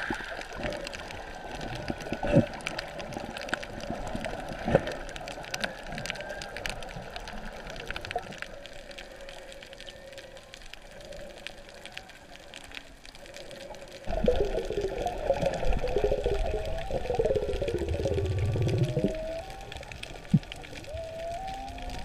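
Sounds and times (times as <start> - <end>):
water sloshing and bubbling: 0.0 - 22.0.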